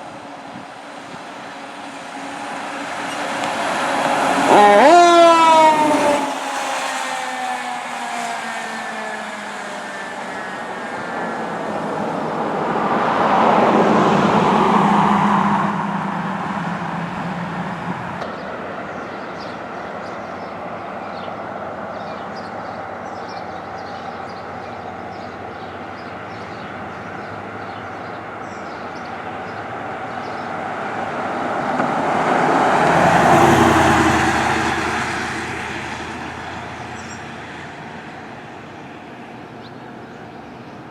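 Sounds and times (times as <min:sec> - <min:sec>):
steady traffic noise: 0:00.0 - 0:40.9
vehicles passing by: 0:00.0 - 0:40.9.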